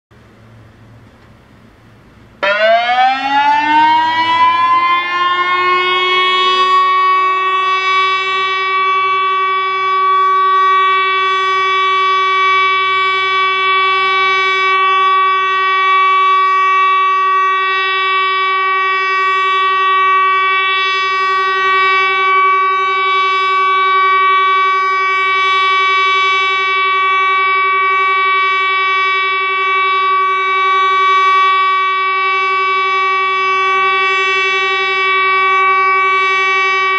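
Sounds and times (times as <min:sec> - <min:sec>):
civil defence siren: 0:00.4 - 0:36.9.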